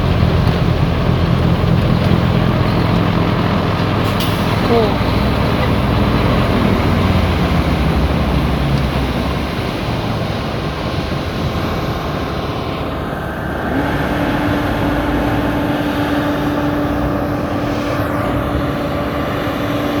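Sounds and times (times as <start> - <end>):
snow blower running: 0.0 - 20.0.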